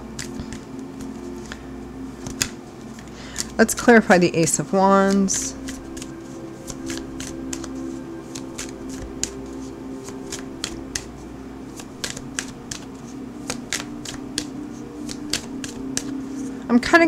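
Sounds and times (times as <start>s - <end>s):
playing cards being shuffled: 0.0s - 16.7s.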